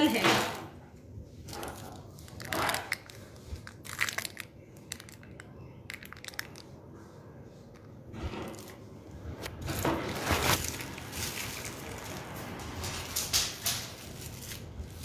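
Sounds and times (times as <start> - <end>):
piping bag crinkling: 1.4 - 15.0.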